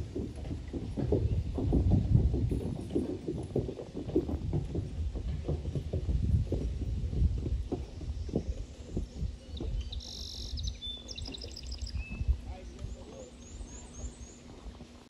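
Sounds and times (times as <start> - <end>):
horse hooves on wooden bridge: 0.0 - 15.0.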